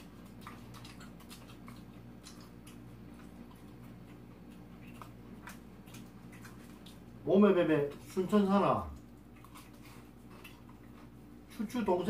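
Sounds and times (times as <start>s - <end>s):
small eating clicks: 0.0s - 12.0s
steady low hum: 0.0s - 12.0s.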